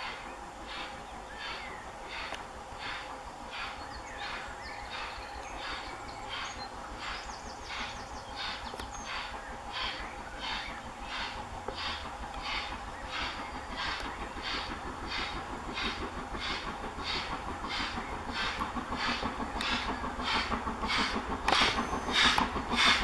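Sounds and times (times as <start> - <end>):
steam locomotive exhaust beats: 0.0 - 23.0.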